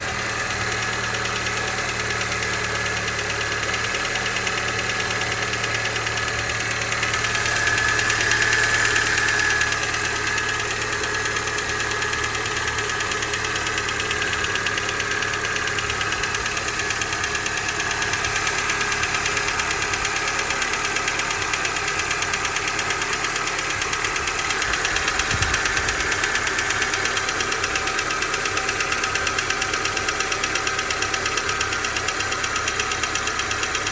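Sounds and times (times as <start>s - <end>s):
car engine running: 0.0s - 33.9s
fast even engine ticking: 0.0s - 33.9s.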